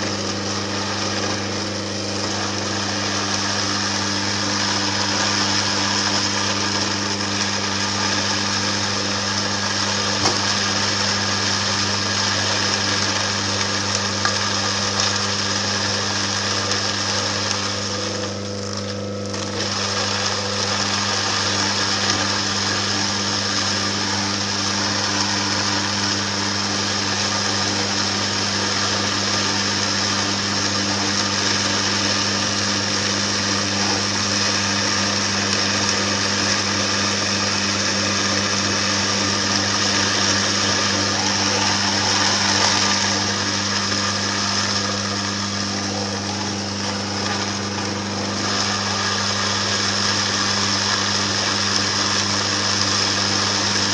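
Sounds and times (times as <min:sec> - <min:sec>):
juicer humming and grinding: 0:00.0 - 0:53.9.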